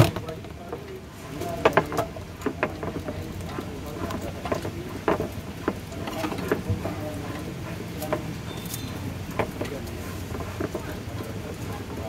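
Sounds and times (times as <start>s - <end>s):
wooden pestle grinding on plate: 1.3s - 12.0s.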